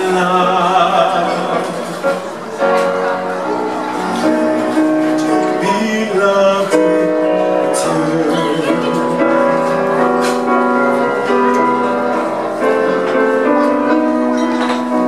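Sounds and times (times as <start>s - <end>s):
grand piano: 0.0s - 15.0s
live band music: 0.0s - 15.0s.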